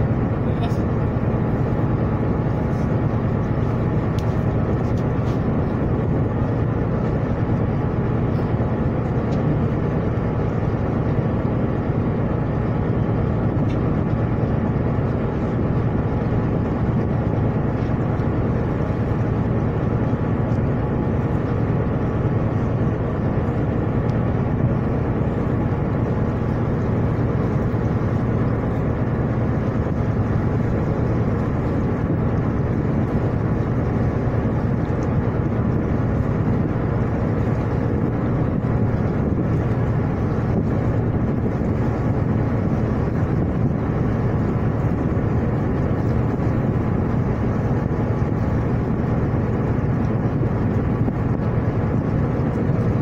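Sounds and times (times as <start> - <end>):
ship engine drone: 0.0 - 53.0.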